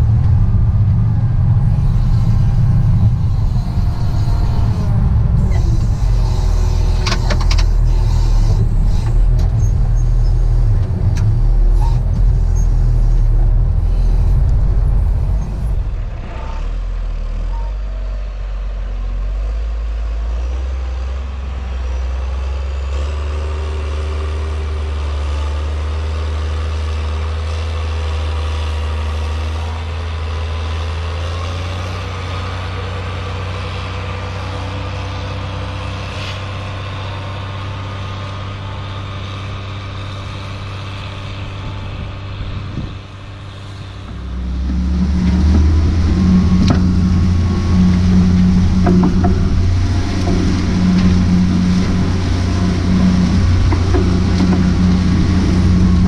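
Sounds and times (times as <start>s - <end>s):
diesel engine running hard: 0.0s - 56.0s.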